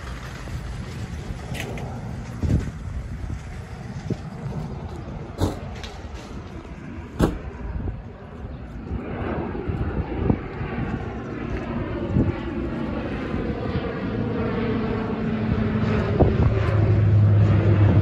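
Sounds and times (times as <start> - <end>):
turboprop airliner droning overhead: 0.0 - 18.0.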